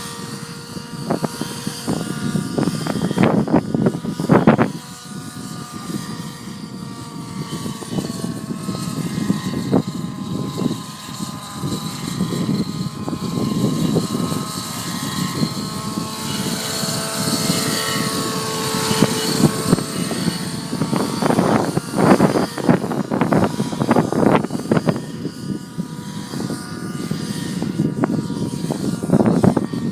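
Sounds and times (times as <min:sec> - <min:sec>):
model helicopter engine and rotors: 0:00.0 - 0:29.9
wind buffeting microphone: 0:00.0 - 0:29.9.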